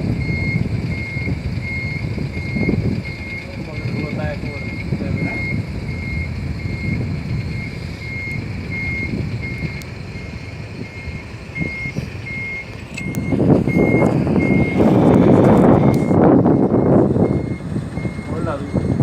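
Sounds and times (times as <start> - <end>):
truck engine running: 0.0 - 19.0
truck reversing alarm beeping: 0.0 - 19.0.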